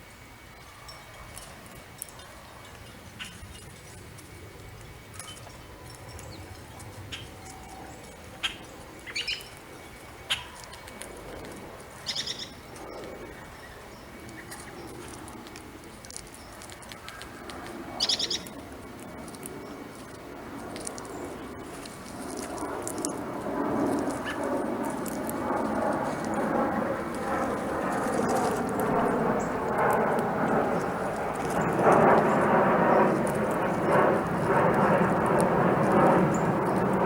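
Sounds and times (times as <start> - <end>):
broad steady rumble: 0.0 - 37.0
birds chirping: 0.1 - 37.0.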